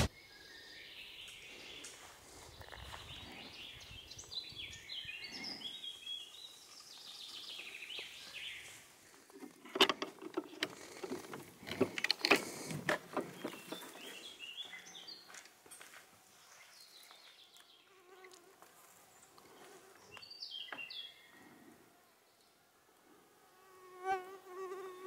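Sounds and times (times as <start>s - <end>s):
birds chirping: 0.0s - 18.3s, 19.1s - 22.6s.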